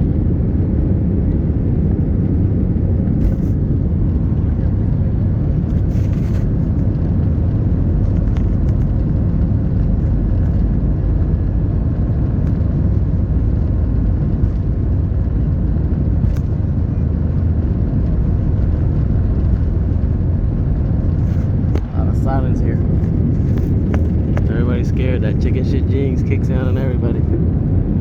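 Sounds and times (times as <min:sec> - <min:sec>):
jet engines roaring at takeoff: 0:00.0 - 0:28.0
runway rumble: 0:00.0 - 0:28.0.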